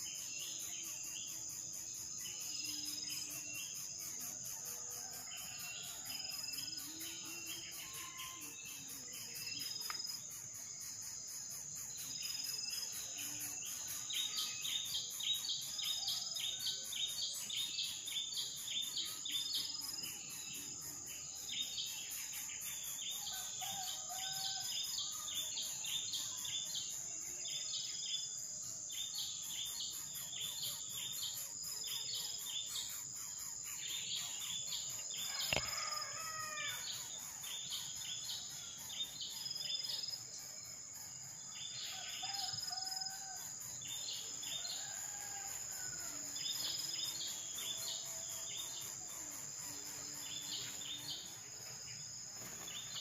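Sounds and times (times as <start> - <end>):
insects droning and chirping: 0.0 - 53.0.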